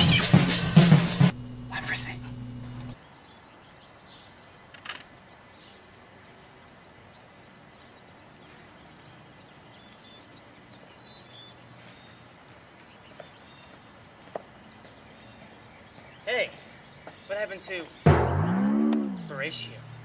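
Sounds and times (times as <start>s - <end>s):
small birds chirping: 0.0s - 0.9s, 1.7s - 20.0s.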